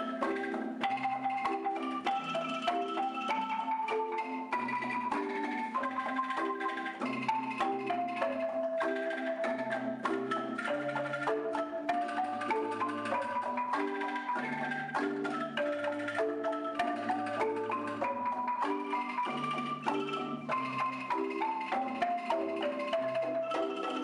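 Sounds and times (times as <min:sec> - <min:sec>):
upbeat mallet percussion music: 0:00.0 - 0:24.0.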